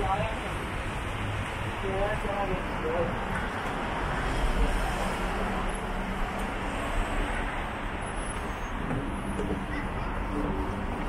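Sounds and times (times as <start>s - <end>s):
city road traffic: 0.0s - 11.0s.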